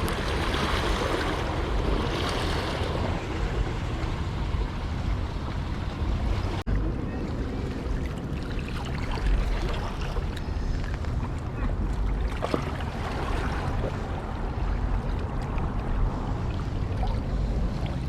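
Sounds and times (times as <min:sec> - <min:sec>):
sea water washing: 0:00.0 - 0:18.0
wind on microphone: 0:00.0 - 0:18.0.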